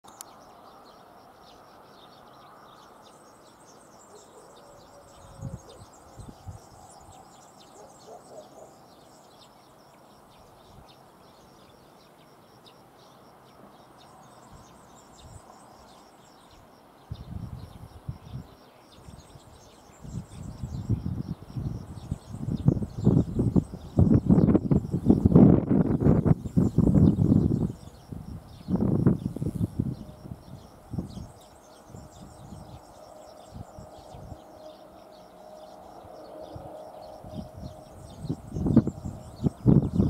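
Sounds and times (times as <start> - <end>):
outdoor background noise: 0.0 - 40.0
small birds chirping: 0.0 - 40.0.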